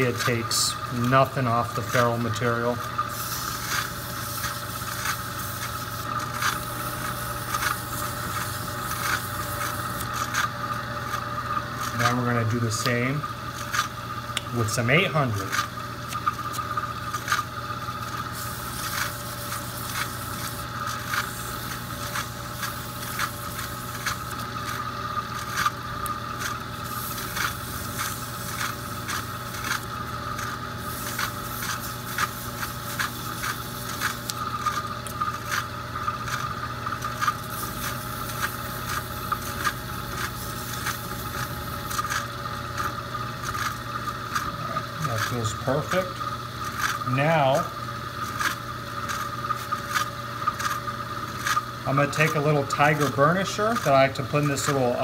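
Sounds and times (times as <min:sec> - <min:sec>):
sandpaper scraping spinning wood: 0:00.0 - 0:11.2, 0:11.8 - 0:13.9, 0:18.1 - 0:25.8, 0:26.4 - 0:34.8, 0:35.4 - 0:55.0
lathe motor hum: 0:00.0 - 0:55.0.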